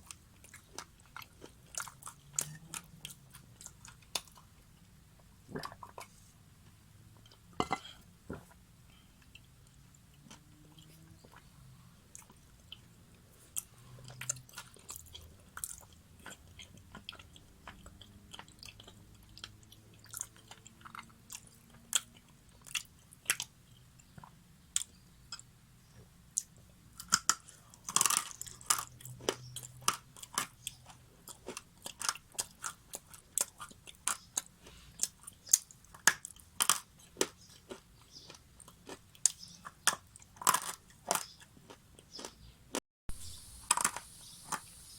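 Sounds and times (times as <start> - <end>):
crunching and chewing: 0.0 - 6.3, 7.3 - 11.5, 12.1 - 42.4, 43.2 - 44.7.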